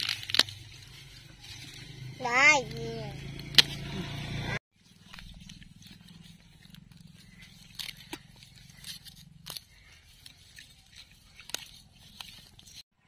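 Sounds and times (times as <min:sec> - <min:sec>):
blade scraping soil off root: 0:00.0 - 0:12.8.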